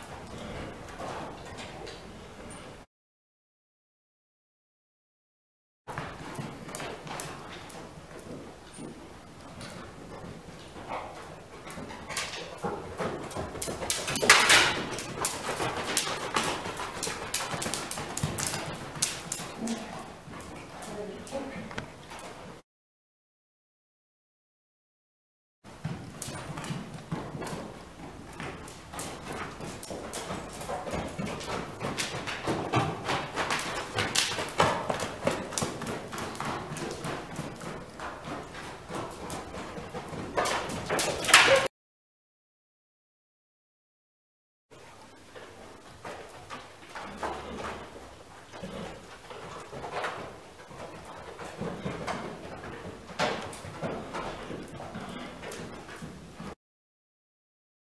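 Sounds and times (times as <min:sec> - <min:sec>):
horse hoofbeats: 0:00.0 - 0:02.8, 0:05.9 - 0:22.6, 0:25.7 - 0:41.7, 0:44.8 - 0:56.6.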